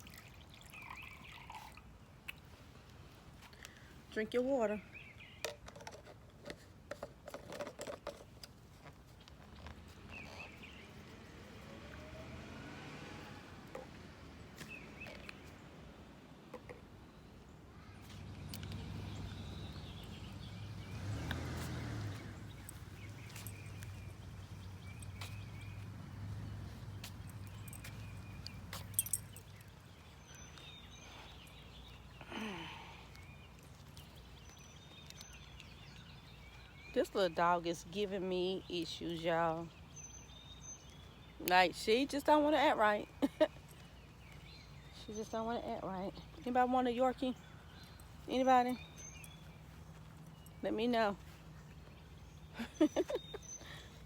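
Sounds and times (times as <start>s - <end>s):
faint outdoor ambience: 0.0s - 54.0s.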